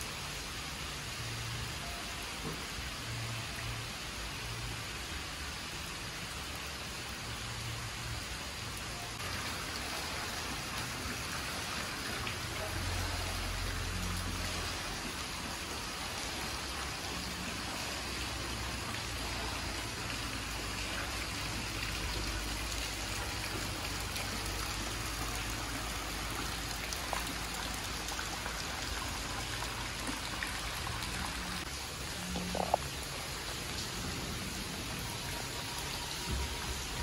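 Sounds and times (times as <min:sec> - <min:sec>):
rain falling on water and trees: 0:00.0 - 0:37.0.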